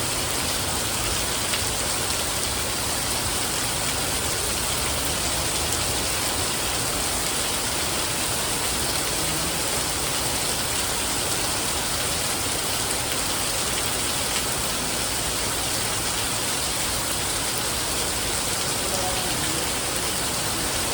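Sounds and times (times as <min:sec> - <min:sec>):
rain pattering: 0:00.0 - 0:20.9.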